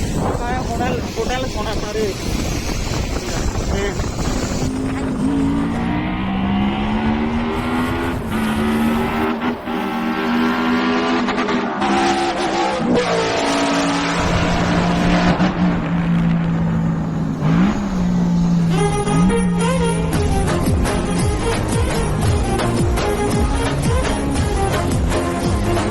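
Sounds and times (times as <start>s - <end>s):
motorcycle engine running: 0.0s - 10.6s, 15.6s - 25.9s
road noise: 0.0s - 25.9s
rushing wind: 0.0s - 25.9s.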